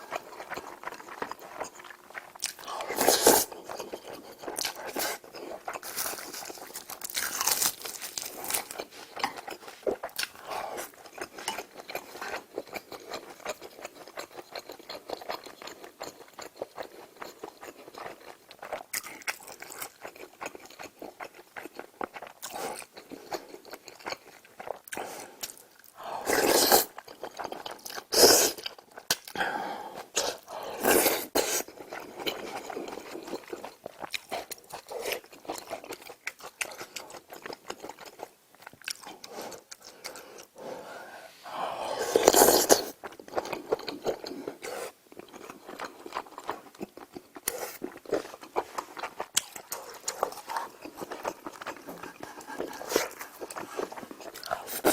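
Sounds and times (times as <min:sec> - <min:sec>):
chewing and crunching food: 0:00.0 - 0:40.7, 0:42.0 - 0:54.9.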